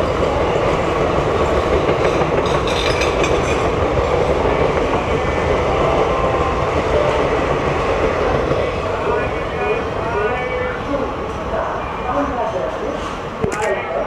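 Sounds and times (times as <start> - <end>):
train wheels roaring on rail: 0.0 - 14.0.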